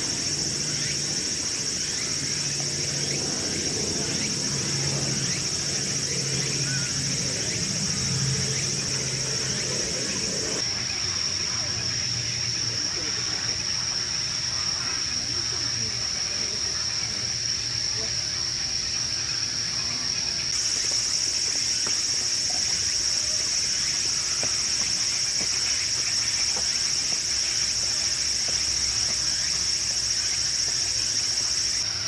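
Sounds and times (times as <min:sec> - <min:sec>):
night insects chorus: 0:00.0 - 0:32.0
faint people's voices: 0:00.1 - 0:32.0.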